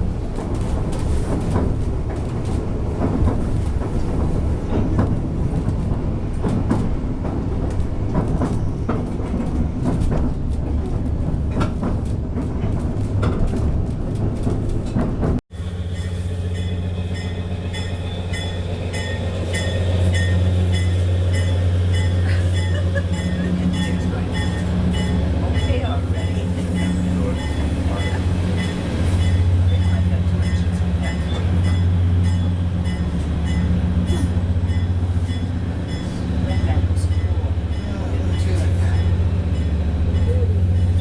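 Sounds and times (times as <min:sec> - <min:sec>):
train rumbling and rattling: 0:00.0 - 0:41.0.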